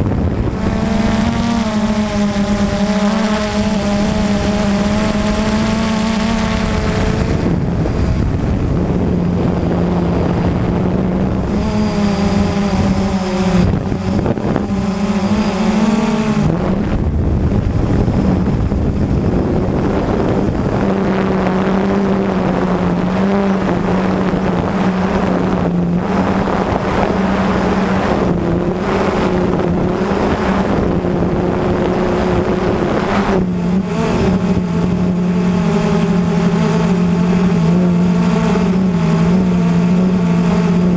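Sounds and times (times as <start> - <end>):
quadcopter motors buzzing: 0.0 - 40.9
wind noise on microphone: 0.0 - 40.9.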